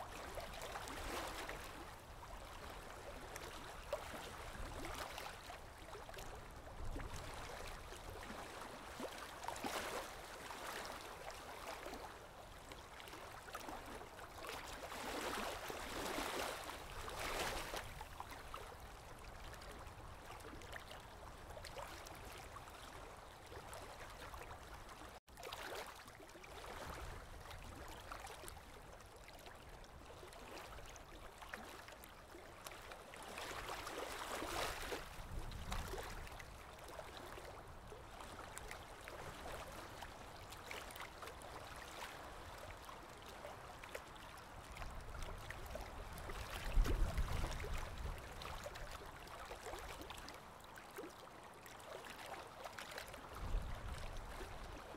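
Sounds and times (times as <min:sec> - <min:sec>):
small waves lapping at shore: 0:00.0 - 0:54.9.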